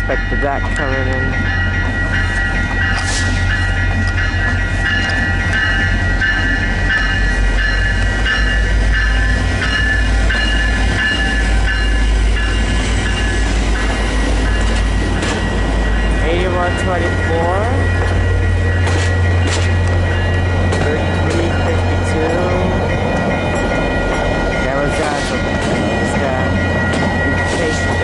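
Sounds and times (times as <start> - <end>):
train coaches rumbling: 0.0 - 28.0
high ringing pulsing tone: 1.4 - 28.0.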